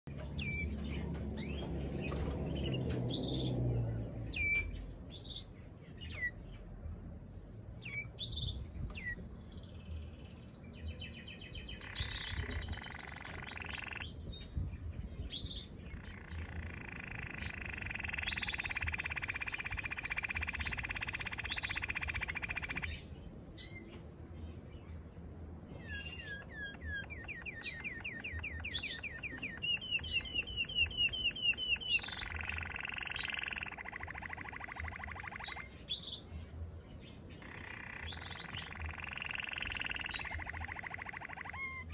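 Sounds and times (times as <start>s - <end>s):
canary chirping and trilling: 0.1s - 7.0s, 7.8s - 25.0s, 25.7s - 41.9s.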